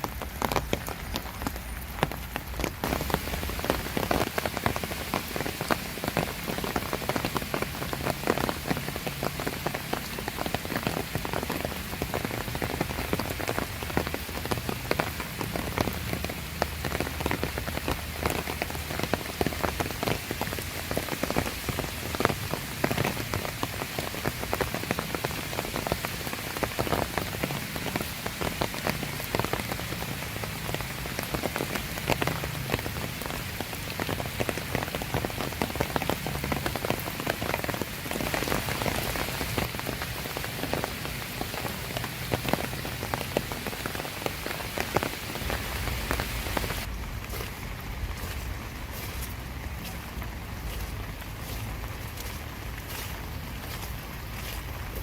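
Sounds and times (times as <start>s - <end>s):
rain falling: 0.0s - 55.0s
raindrops spattering close by: 0.0s - 55.0s.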